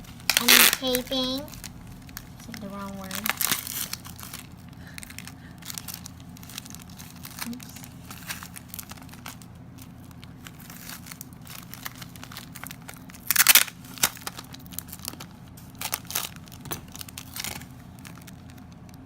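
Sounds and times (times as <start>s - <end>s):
paper and sticky tape crinkling: 0.0s - 19.0s.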